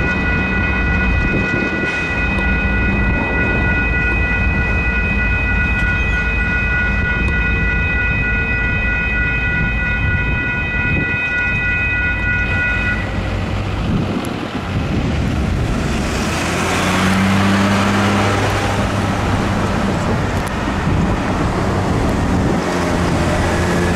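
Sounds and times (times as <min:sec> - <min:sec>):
crossing bell ringing: 0:00.0 - 0:23.9
locomotive diesel engines rumbling: 0:00.0 - 0:23.9.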